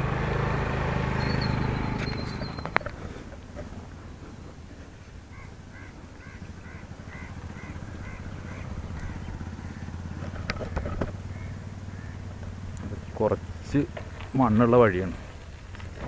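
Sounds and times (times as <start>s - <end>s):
bicycle tyre rumble: 0.0s - 16.0s
wind: 0.0s - 16.0s
bird calling: 1.1s - 15.8s.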